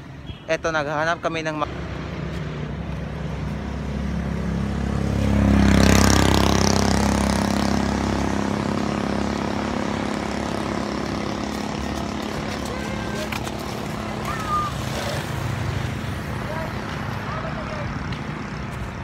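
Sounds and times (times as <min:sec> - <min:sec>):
vehicle passing on road: 0:00.7 - 0:19.0.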